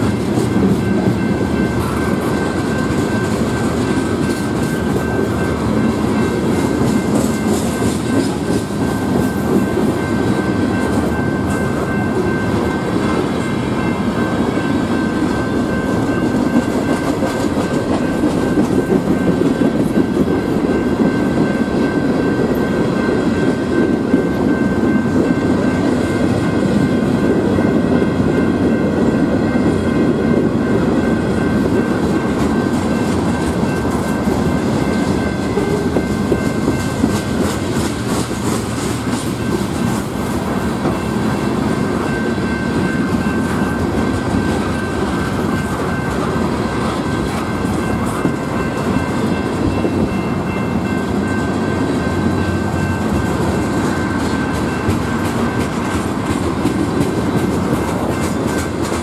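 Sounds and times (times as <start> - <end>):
wheels clicking over rail joints: 0.0 - 27.3, 31.0 - 59.0
steady high tone: 0.0 - 56.3
train wheels rumbling on rail: 0.0 - 59.0.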